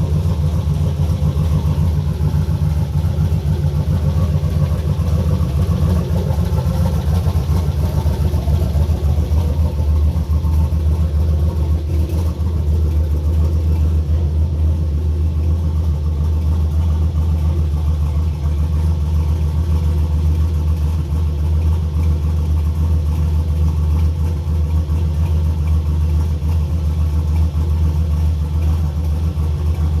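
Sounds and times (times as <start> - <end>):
engine idling with deep rumble: 0.0 - 30.0.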